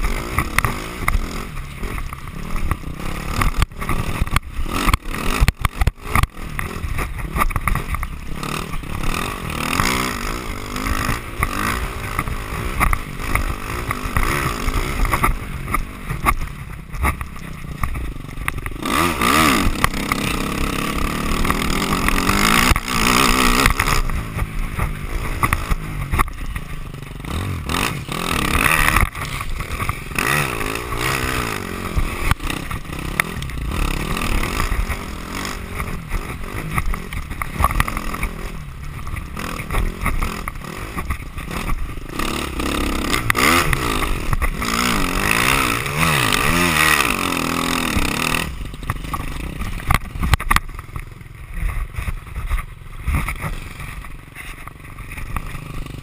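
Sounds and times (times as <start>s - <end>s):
dirt bike engine revving: 0.0s - 56.0s
sharp knocks and rattles: 0.0s - 56.0s.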